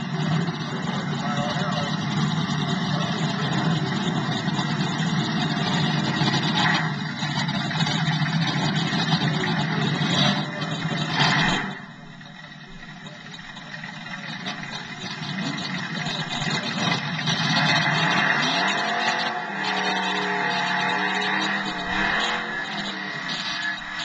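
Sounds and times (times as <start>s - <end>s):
drag racing car engines revving: 0.0s - 24.0s.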